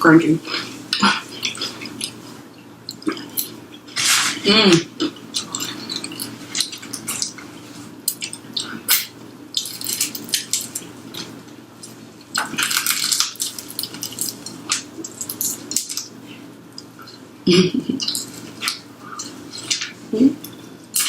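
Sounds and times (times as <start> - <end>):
chewing crunchy fries: 0.5 - 4.3, 4.9 - 17.3, 17.9 - 21.0.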